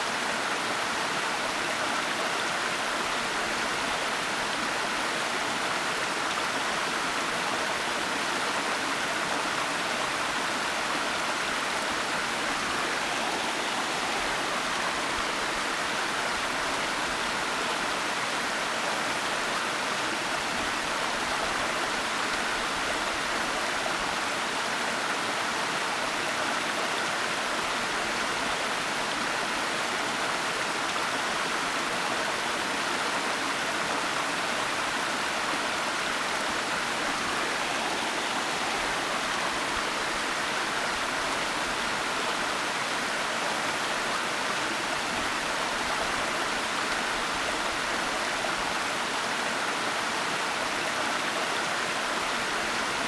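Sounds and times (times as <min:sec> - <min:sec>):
waterfall rushing and splashing: 0:00.0 - 0:53.0.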